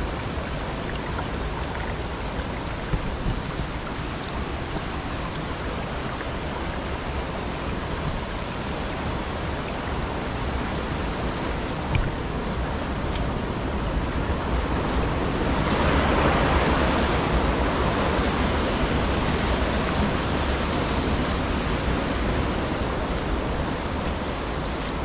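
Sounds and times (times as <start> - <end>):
stream rushing: 0.0 - 25.0.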